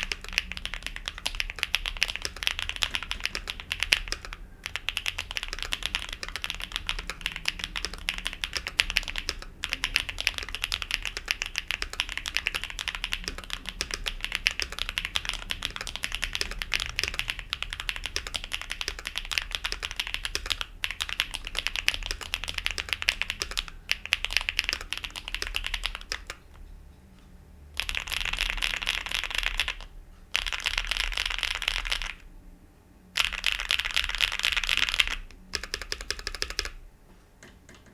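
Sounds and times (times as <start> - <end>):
typing on mechanical keyboard: 0.0 - 26.6, 27.8 - 32.3, 33.2 - 36.8.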